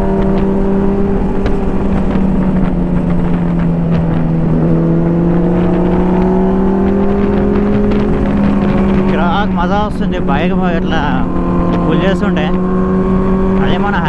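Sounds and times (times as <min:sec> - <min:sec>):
motorcycle engine at high revs: 0:00.0 - 0:14.0
wind rumble on microphone: 0:00.0 - 0:14.0.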